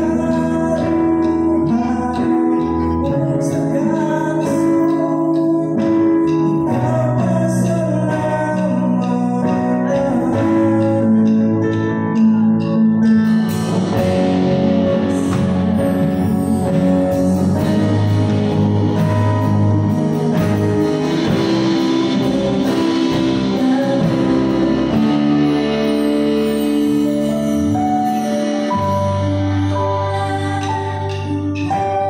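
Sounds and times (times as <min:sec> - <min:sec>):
bass guitar: 0:00.0 - 0:32.0
drums with cymbals: 0:00.0 - 0:32.0
electric guitars: 0:00.0 - 0:32.0
keyboard: 0:00.0 - 0:32.0.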